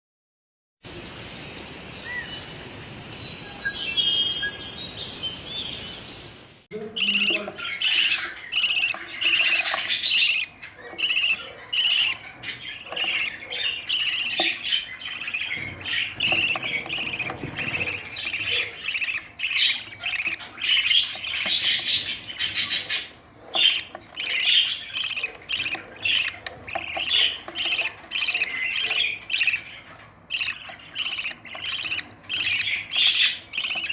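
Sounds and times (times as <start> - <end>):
budgerigars chirping and squawking: 6.7 - 33.9.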